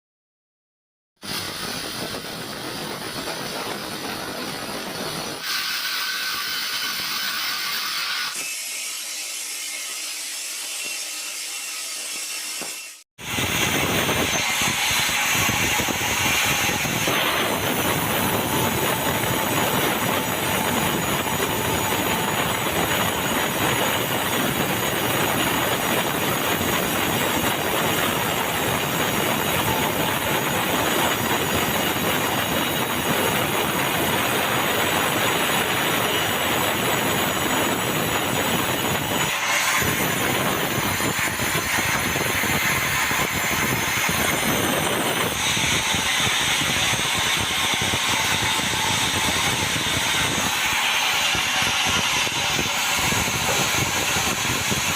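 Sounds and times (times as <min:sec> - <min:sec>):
sawmill saw cutting log: 0:01.2 - 0:54.9.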